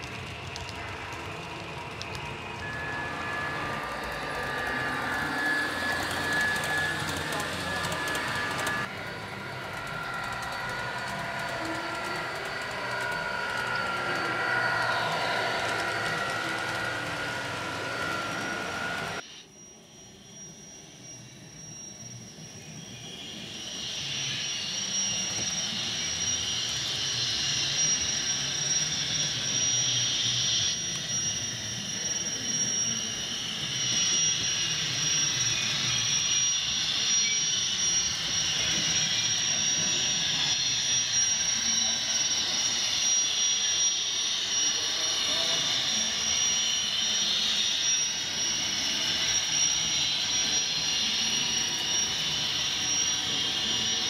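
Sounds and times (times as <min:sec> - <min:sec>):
model train high whirring: 0:00.0 - 0:54.0
model train motor whine: 0:00.0 - 0:54.0.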